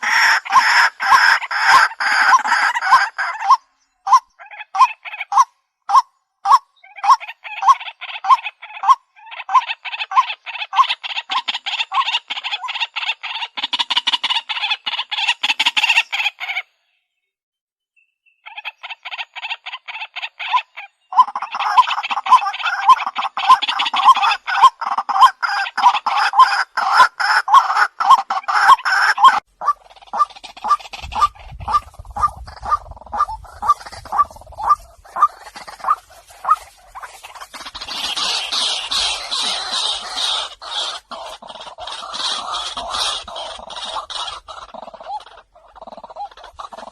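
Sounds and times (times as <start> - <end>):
waterhen harsh croaking calls: 0.0 - 16.8, 18.4 - 46.9.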